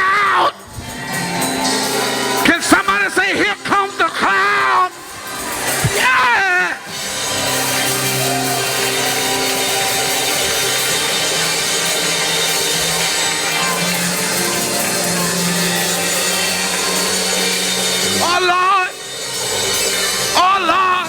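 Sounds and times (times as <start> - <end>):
church keyboard chords: 0.0 - 21.0.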